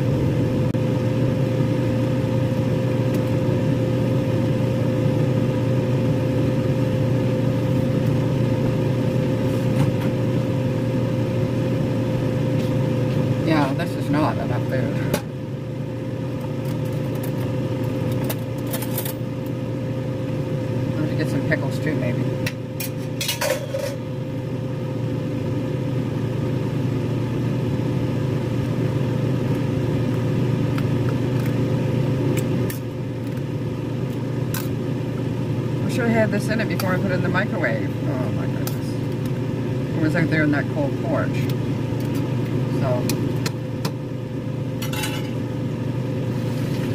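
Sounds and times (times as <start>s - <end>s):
microwave oven humming: 0.0s - 46.9s.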